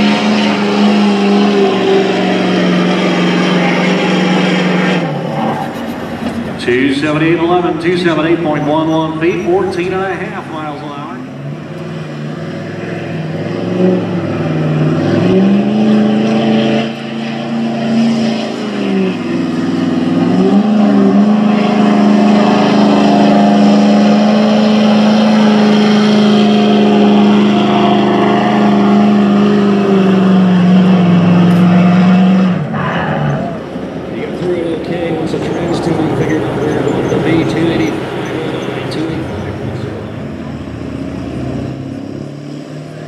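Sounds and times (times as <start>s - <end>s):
diesel truck engine revving: 0.0s - 43.0s.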